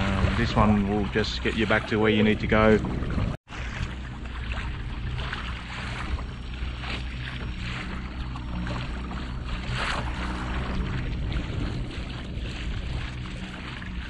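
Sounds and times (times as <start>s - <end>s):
electric boat motor humming: 0.0s - 14.0s
water splashing against hull: 0.0s - 14.0s.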